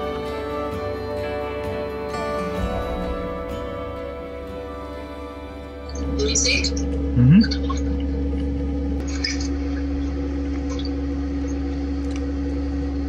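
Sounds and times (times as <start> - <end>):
low hum: 2.4 - 13.0.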